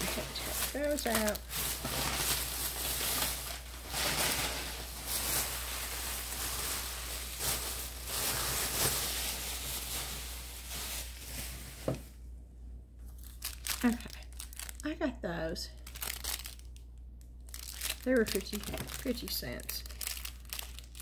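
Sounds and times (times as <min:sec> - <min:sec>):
packaging rustling and crinkling: 0:00.0 - 0:12.2, 0:13.1 - 0:14.9, 0:15.8 - 0:16.8, 0:17.4 - 0:21.0.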